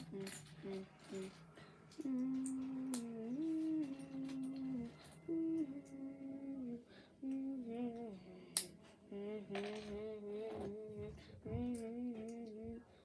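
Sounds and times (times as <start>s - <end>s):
child humming: 0.0s - 1.4s, 2.0s - 12.9s.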